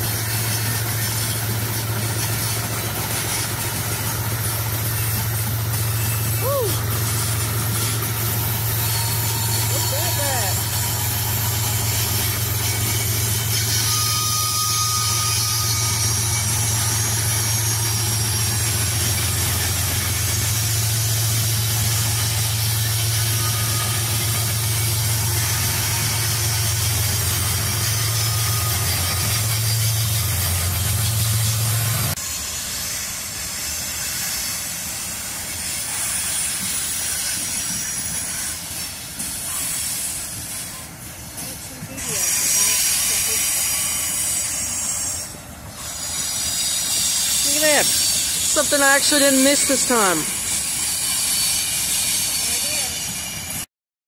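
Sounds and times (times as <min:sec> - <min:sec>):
diesel locomotive engine drone: 0:00.0 - 0:53.7.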